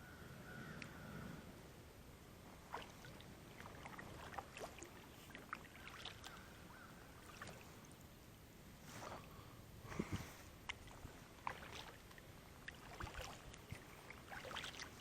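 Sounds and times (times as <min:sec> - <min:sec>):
faint lapping water: 0:00.3 - 0:15.0.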